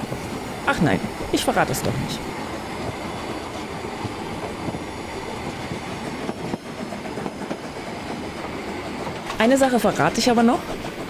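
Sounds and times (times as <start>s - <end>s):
rail noise: 0.0s - 11.0s
steam locomotive working uphill: 0.0s - 11.0s.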